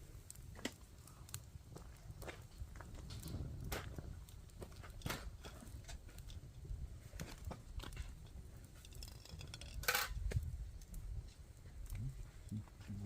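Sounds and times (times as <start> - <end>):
campfire crackling: 0.0 - 13.0
sharp crack of fire: 0.0 - 13.0.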